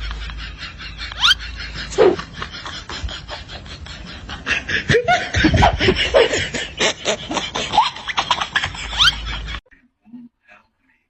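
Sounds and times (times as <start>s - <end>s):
people laughing and snickering: 0.0s - 9.6s.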